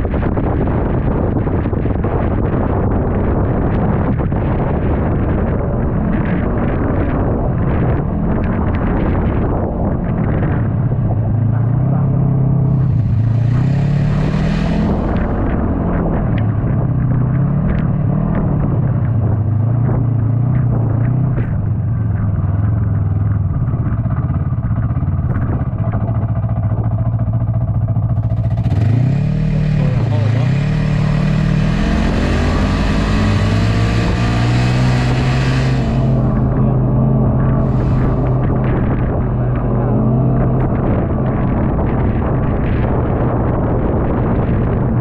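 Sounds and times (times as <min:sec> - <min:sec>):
snowmobile engine running: 0:00.0 - 0:45.0.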